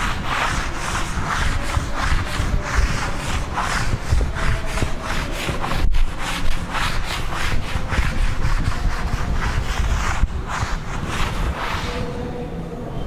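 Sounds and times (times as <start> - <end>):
duster wiping blackboard: 0.0 - 12.4
steady low rumble: 0.0 - 13.0.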